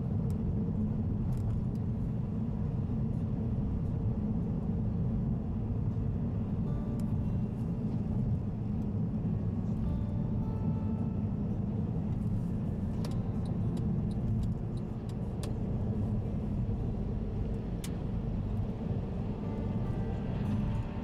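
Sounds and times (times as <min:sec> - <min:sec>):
car tyres and engine rumble: 0:00.0 - 0:21.0.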